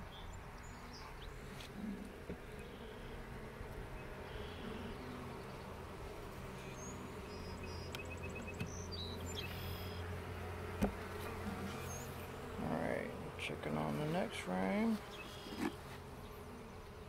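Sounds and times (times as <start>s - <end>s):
birds chirping: 0.0s - 10.4s, 11.2s - 17.0s
honeybees buzzing: 0.0s - 17.0s.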